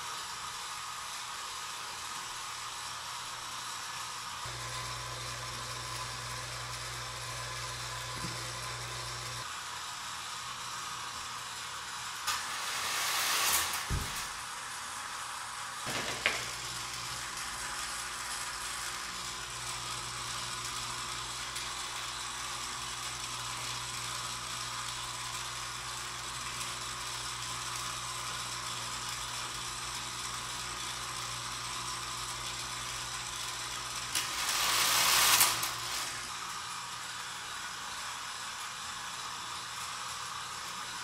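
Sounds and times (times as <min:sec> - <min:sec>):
electric motor and gears whirring: 0:00.0 - 0:41.0.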